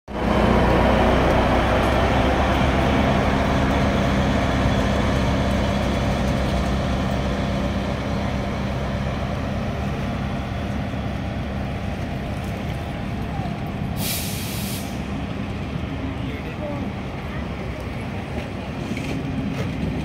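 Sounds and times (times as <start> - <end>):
diesel engine drone: 0.1 - 20.0
train running noise: 0.1 - 20.0.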